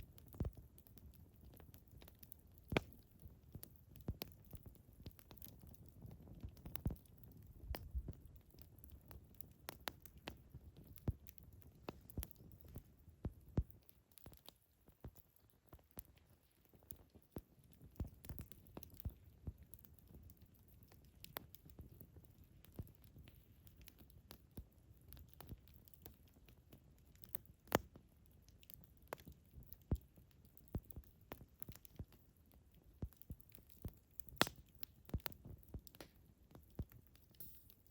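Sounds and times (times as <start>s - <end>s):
campfire crackling: 0.0s - 37.9s
low rumble of burning fire: 0.0s - 37.9s.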